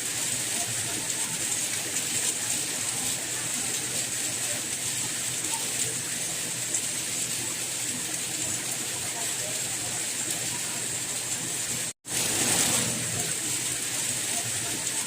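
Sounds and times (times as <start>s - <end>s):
raindrops pattering: 0.0s - 15.0s
soft rain hissing: 0.0s - 15.0s.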